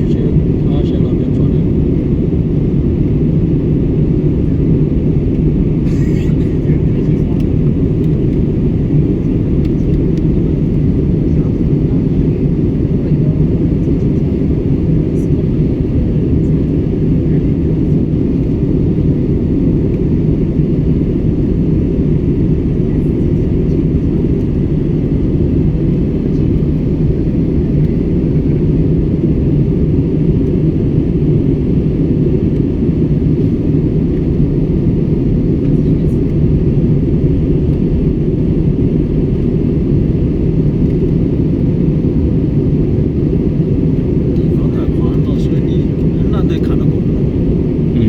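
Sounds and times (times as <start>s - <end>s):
airliner engine drone: 0.0s - 48.0s.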